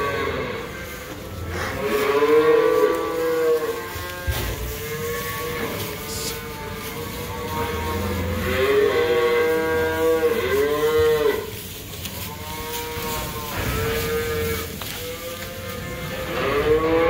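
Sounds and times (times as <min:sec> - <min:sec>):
cattle mooing: 0:00.0 - 0:17.0.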